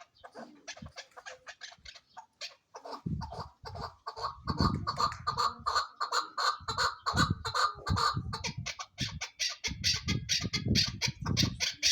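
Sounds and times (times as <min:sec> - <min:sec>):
partridge calling: 0:00.0 - 0:11.9.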